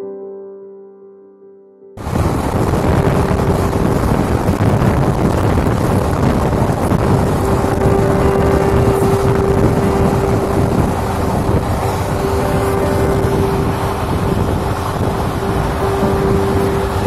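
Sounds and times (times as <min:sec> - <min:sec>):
steady hum: 0:02.0 - 0:17.0
train rumble: 0:02.0 - 0:17.0
wind buffeting microphone: 0:02.0 - 0:17.0.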